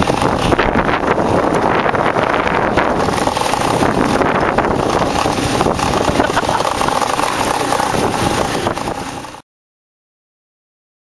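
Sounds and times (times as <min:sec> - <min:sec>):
motorcycle engine running: 0:00.0 - 0:09.4
wind rushing over microphone: 0:00.0 - 0:09.4.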